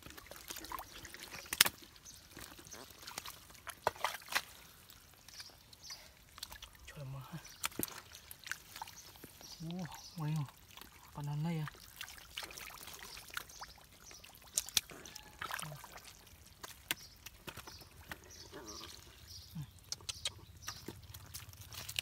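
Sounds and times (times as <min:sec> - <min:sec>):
hands squelching through mud: 0:00.0 - 0:22.0
small sharp wet clicks: 0:00.0 - 0:22.0
trickling water: 0:00.0 - 0:22.0.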